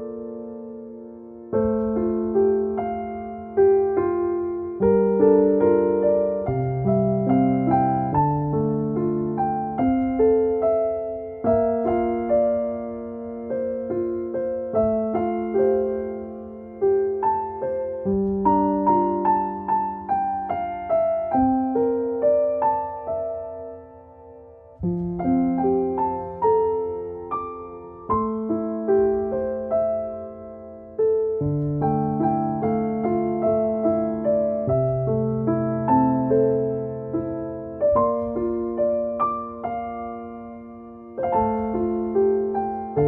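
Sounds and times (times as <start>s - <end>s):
slow gentle solo piano: 0.0s - 43.0s.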